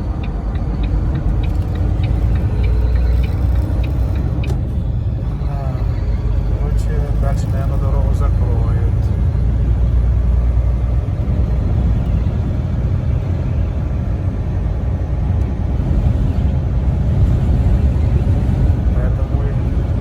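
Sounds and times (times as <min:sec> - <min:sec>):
truck engine rumble from cab: 0:00.0 - 0:20.0.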